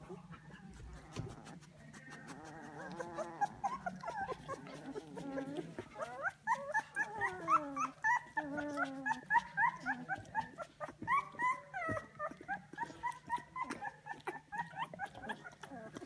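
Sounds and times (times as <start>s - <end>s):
puppies squeaking and whining: 0.0s - 16.0s.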